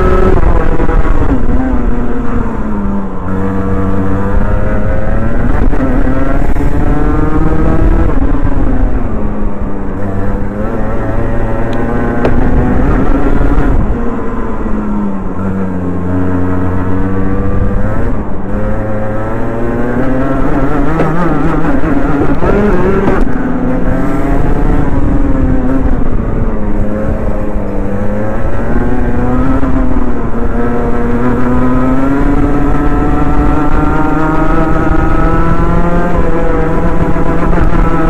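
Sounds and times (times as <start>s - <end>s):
two-stroke kart engine revving: 0.0s - 38.0s.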